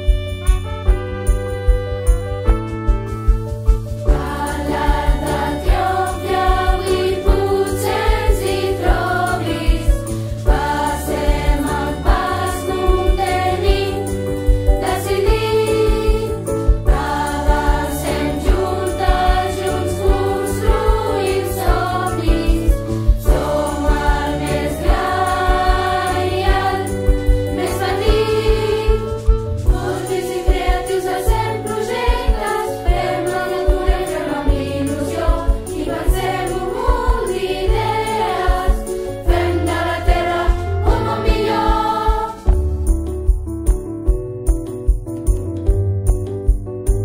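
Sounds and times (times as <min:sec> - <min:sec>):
instrumental backing track with beat: 0:00.0 - 0:47.0
choir singing: 0:04.1 - 0:42.6.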